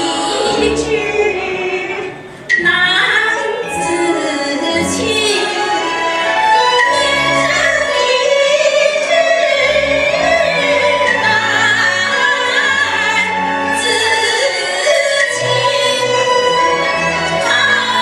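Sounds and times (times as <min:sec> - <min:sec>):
high voice singing opera: 0:00.0 - 0:18.0
orchestral accompaniment: 0:00.0 - 0:18.0.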